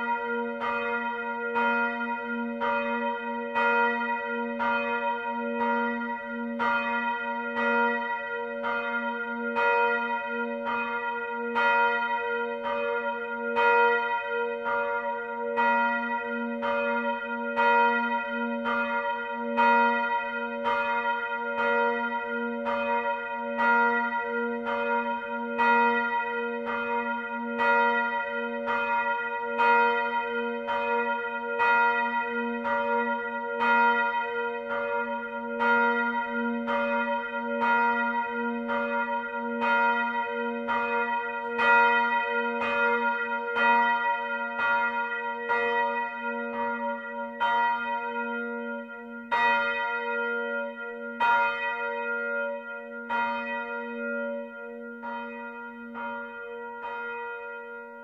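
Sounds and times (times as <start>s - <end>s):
church bell ringing: 0.0s - 58.0s.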